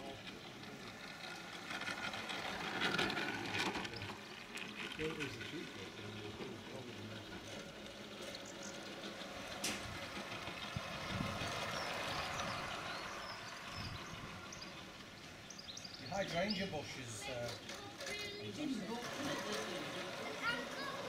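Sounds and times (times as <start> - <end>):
toy train rolling rattle: 0.0 - 21.0.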